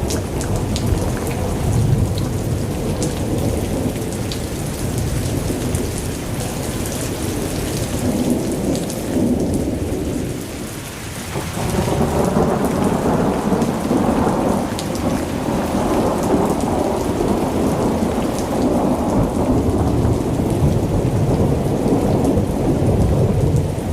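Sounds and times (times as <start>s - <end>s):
heavy rain pouring: 0.0s - 23.9s.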